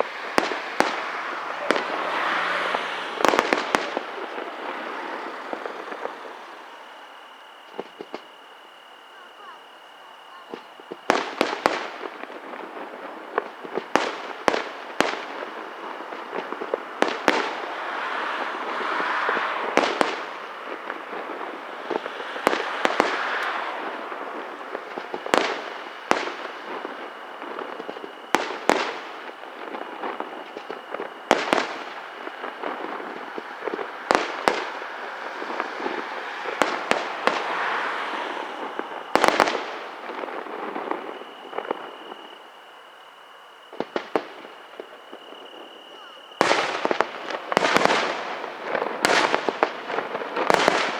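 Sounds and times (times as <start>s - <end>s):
fireworks crackling and fizzing: 0.0s - 50.9s.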